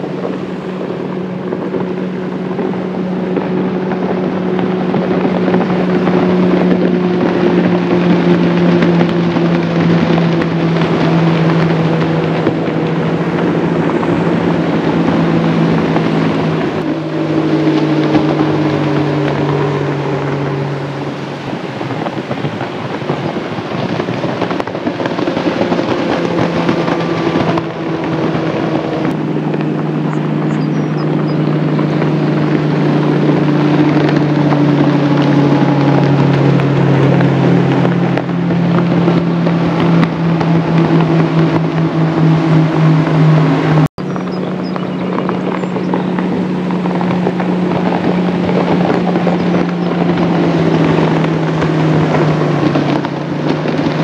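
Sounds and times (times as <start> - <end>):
outboard motor boat engine drone: 0.0 - 54.0.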